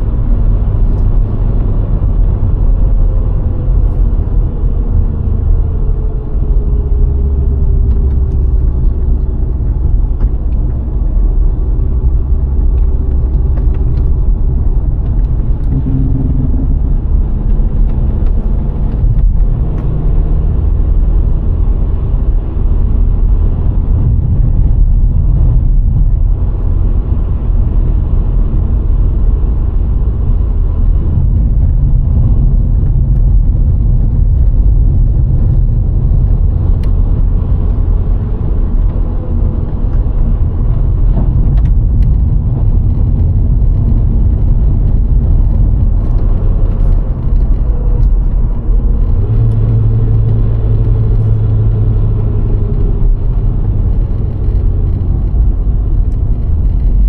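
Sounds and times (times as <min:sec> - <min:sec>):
car driving on road: 0:00.0 - 0:57.0
low hum: 0:00.0 - 0:57.0.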